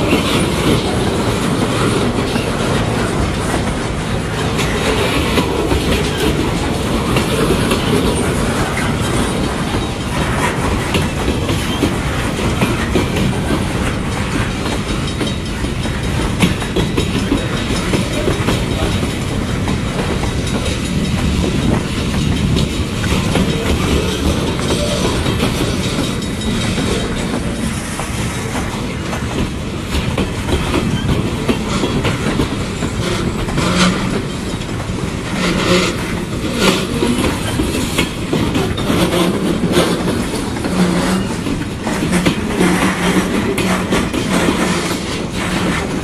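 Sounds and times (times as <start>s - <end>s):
freight cars rumbling: 0.0s - 46.0s
wheels clicking over rail joints: 0.0s - 46.0s.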